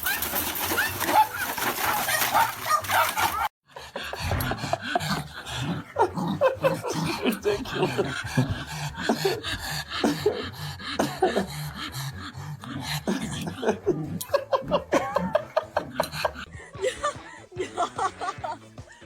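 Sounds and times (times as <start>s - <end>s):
person laughing: 1.4s - 11.7s, 13.1s - 19.0s.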